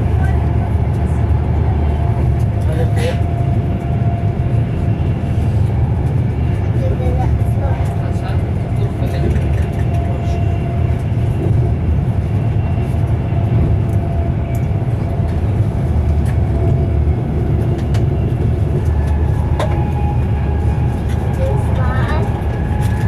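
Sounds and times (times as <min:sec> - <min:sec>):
train rumble from inside coach: 0:00.0 - 0:23.0.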